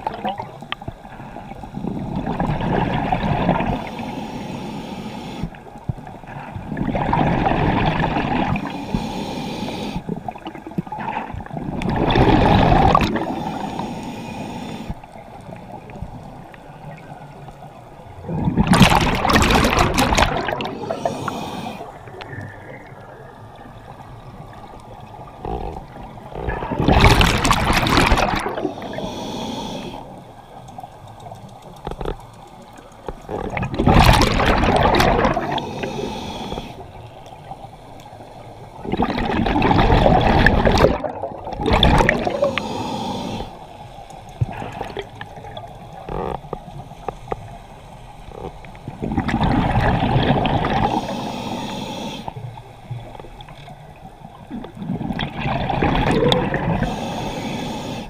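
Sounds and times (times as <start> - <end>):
exhaled bubbles gurgling: 0.0 - 4.1, 5.4 - 9.2, 9.8 - 17.4, 18.1 - 30.2, 33.2 - 37.6, 38.2 - 43.6, 44.3 - 46.8, 48.2 - 58.0
underwater water noise: 0.0 - 58.0.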